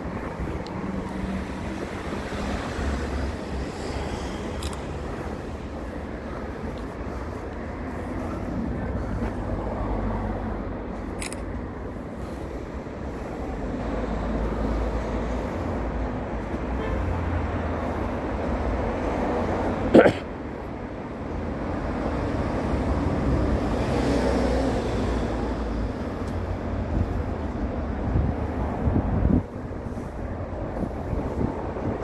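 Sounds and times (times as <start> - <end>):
vehicle running with road noise: 0.0 - 32.0.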